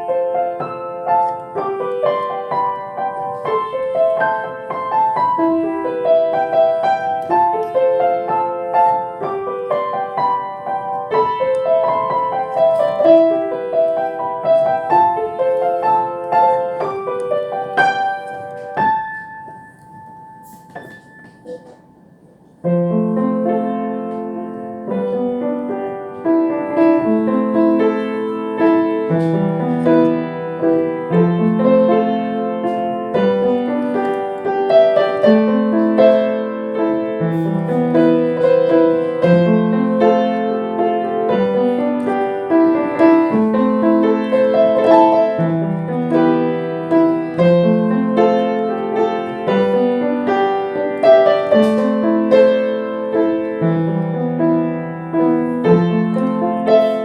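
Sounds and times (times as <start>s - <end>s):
slow solo piano piece: 0.0s - 57.0s.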